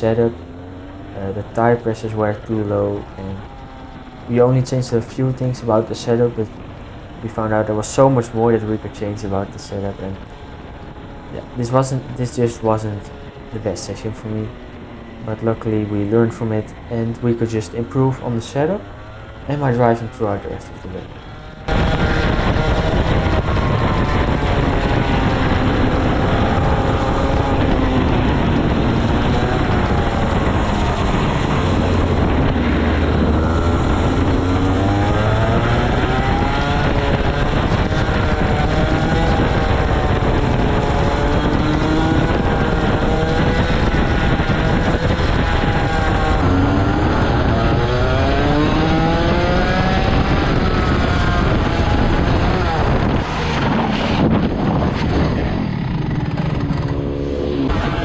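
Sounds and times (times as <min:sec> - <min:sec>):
kart engine revving: 0:00.0 - 0:58.0.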